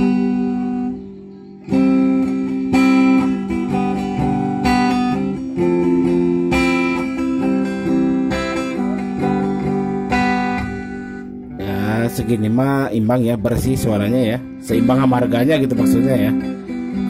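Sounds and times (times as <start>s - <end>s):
amplified acoustic guitar chords: 0.0s - 17.0s.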